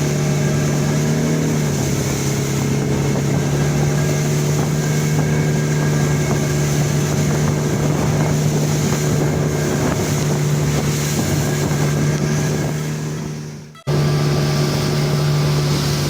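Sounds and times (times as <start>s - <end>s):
outboard engine hum: 0.0s - 16.0s
rushing water: 0.0s - 16.0s
wind buffeting microphone: 0.0s - 16.0s.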